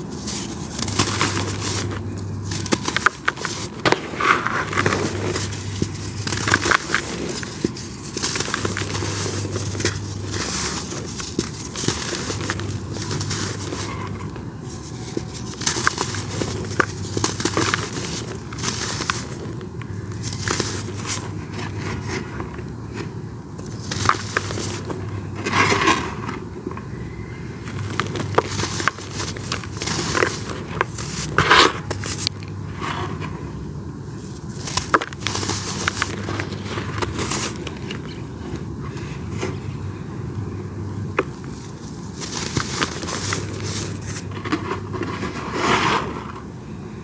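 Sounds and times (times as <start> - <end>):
powdery clumps crumbling: 0.0 - 26.5, 27.6 - 32.9, 34.1 - 39.7, 41.0 - 46.0.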